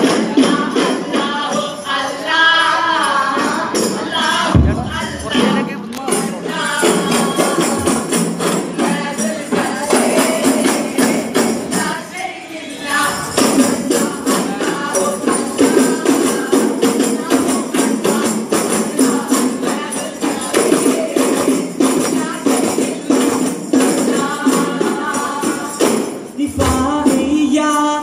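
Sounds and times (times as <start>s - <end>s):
people singing: 0.0s - 28.0s
frame drums beating fast: 3.1s - 12.2s, 12.8s - 28.0s.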